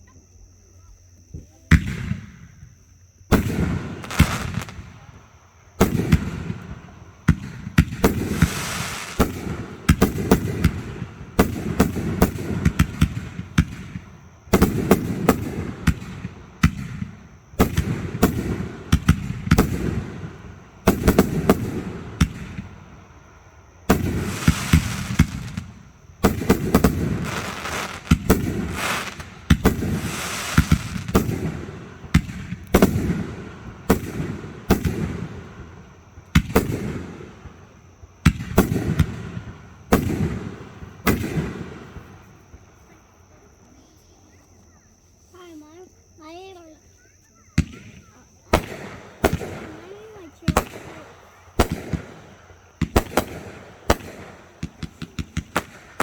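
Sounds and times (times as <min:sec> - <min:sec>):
fireworks bangs and crackling: 0:01.4 - 0:43.0, 0:47.5 - 0:56.0.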